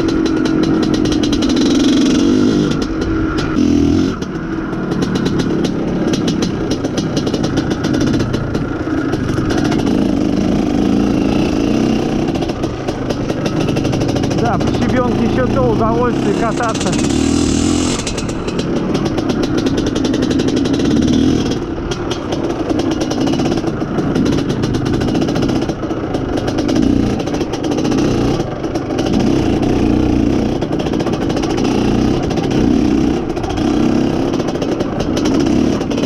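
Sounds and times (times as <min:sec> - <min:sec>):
gravel crackling under tyres: 0:00.0 - 0:36.0
motorcycle engine revving: 0:00.0 - 0:36.0.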